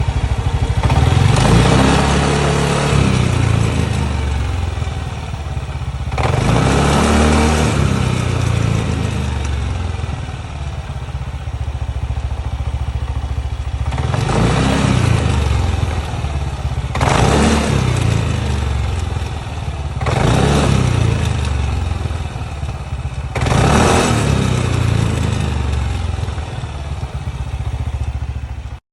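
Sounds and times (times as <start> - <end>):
noise from wheel: 0.0 - 28.8
scooter engine revving: 0.0 - 28.8.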